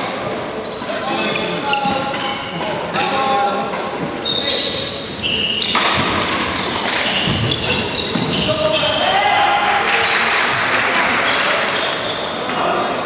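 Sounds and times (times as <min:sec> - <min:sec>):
shoes squeaking on court floor: 0:00.6 - 0:03.4, 0:04.0 - 0:09.2, 0:09.9 - 0:13.0.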